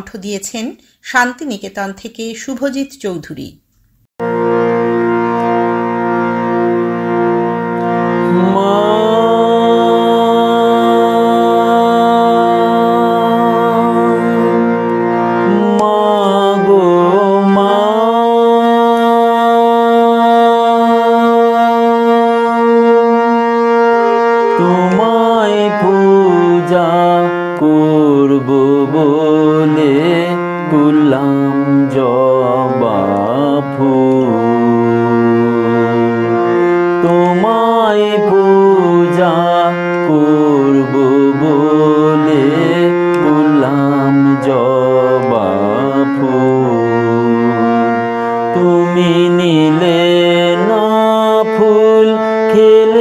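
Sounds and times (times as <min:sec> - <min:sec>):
devotional song melody: 0:04.2 - 0:53.0
steady drone: 0:04.3 - 0:52.9.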